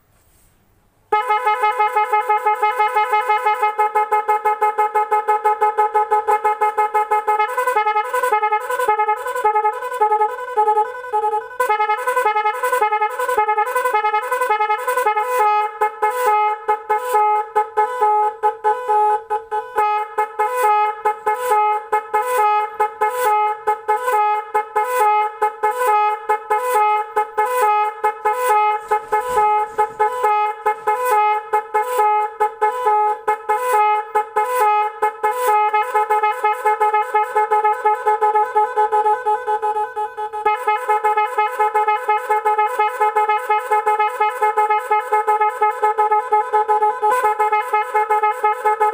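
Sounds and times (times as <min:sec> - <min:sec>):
multi-tone horn beeping: 0:01.1 - 0:48.9.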